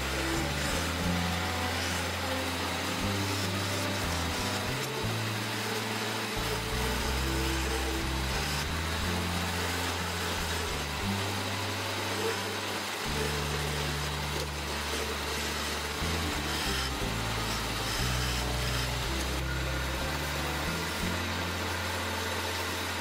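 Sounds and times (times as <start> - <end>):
background music: 0.0 - 23.0
wood scraping on a lathe: 0.0 - 23.0.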